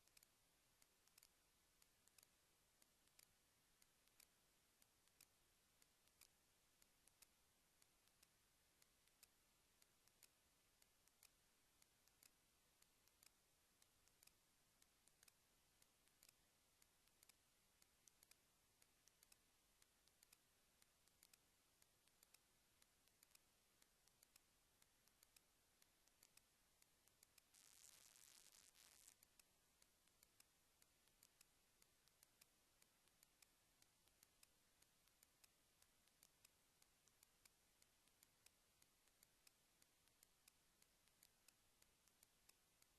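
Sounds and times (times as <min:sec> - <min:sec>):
faint irregular clicks: 0:00.0 - 0:42.9.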